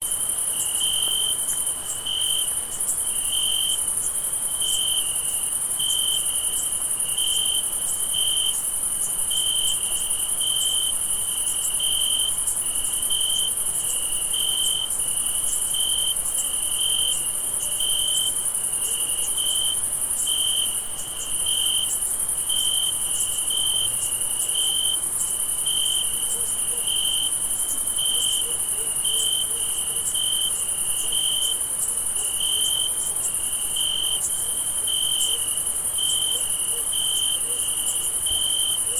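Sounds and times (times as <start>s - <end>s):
lower cricket chirping: 0.0s - 38.9s.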